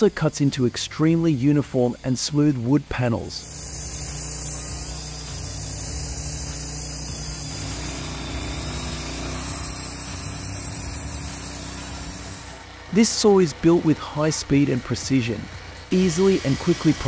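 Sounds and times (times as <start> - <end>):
saw cutting through log: 0.0 - 17.0
small gasoline engine running: 0.0 - 17.0.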